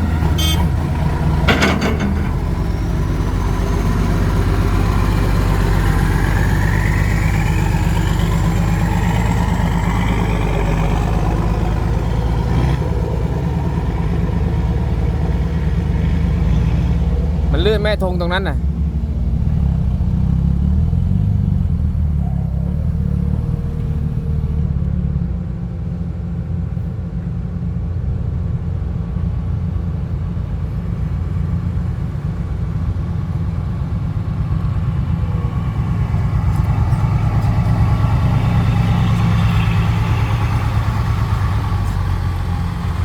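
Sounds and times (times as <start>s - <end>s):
heavy diesel engine rumbling: 0.0s - 43.0s.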